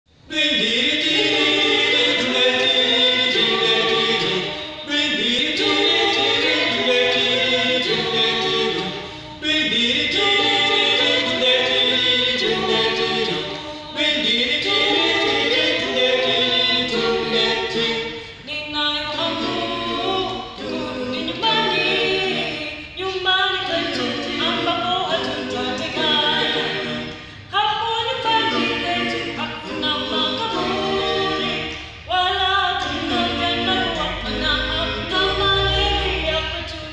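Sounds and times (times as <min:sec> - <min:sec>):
group singing in harmony: 0:00.2 - 0:36.9.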